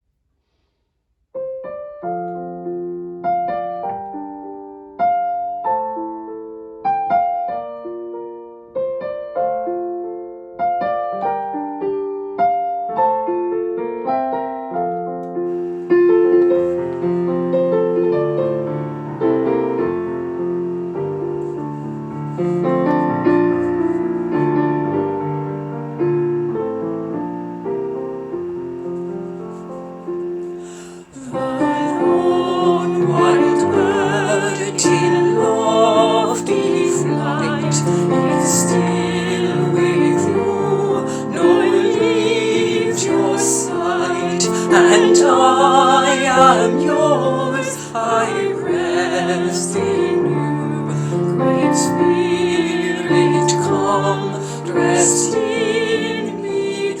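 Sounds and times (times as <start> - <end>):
slow hymn on piano: 1.4 - 57.0.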